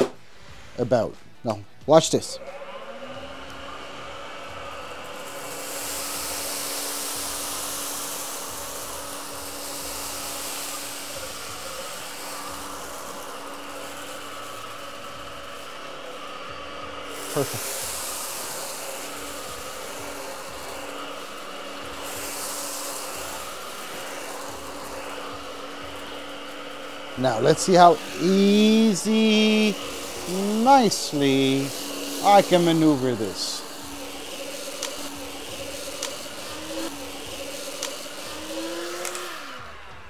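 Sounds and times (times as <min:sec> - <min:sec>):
stick vacuum motor hum: 0:01.5 - 0:40.0
rushing air hiss: 0:05.1 - 0:39.8.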